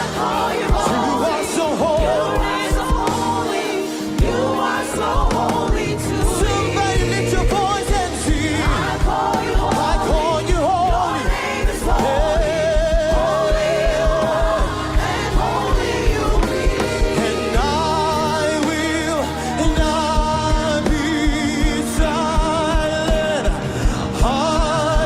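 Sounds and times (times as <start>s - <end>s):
band with steady drum beat: 0.0s - 25.0s
voices singing with vibrato: 0.0s - 25.0s.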